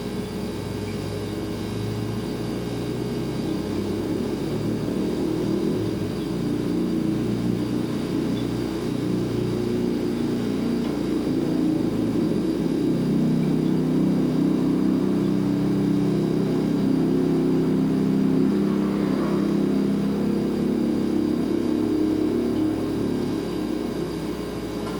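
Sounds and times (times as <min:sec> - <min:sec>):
refrigerator compressor humming: 0:00.0 - 0:24.9.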